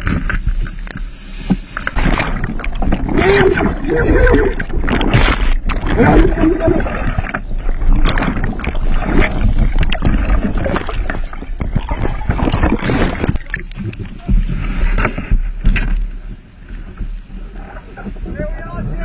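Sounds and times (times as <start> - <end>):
low rumble: 0.0 - 19.0
water rushing and splashing: 0.0 - 19.0.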